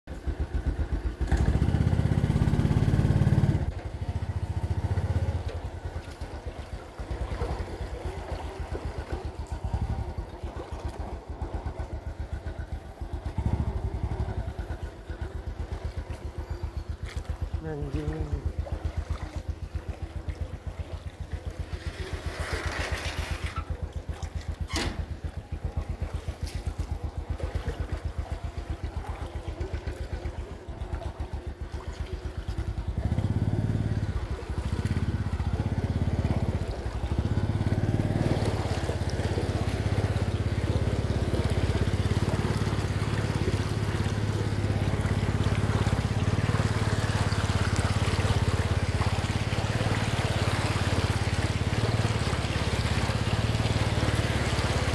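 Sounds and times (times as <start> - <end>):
moped engine: 0.1 - 54.9
water rushing and splashing: 0.1 - 54.9.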